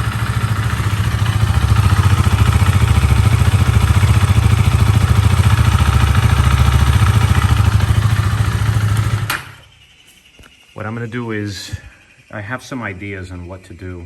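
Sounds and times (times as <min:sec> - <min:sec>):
motorcycle engine idling: 0:00.0 - 0:12.3.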